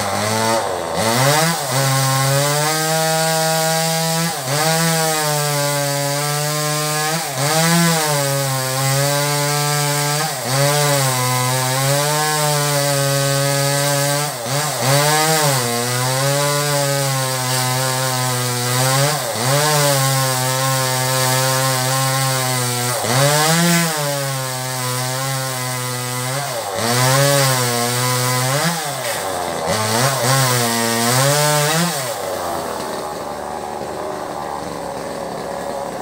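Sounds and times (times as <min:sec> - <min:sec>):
chainsaw cutting wood: 0:00.0 - 0:36.0.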